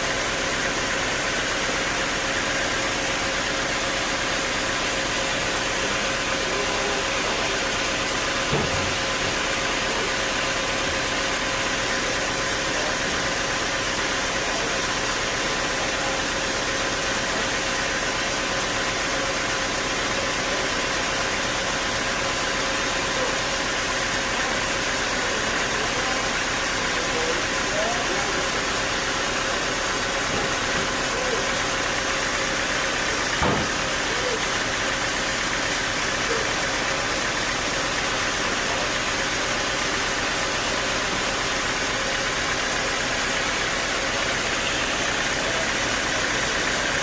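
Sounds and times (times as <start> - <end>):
sawmill machinery running: 0.0 - 47.0.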